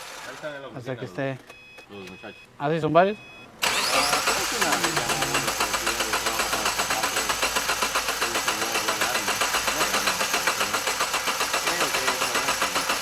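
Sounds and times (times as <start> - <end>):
car engine cranking: 0.0 - 2.6, 3.2 - 13.0.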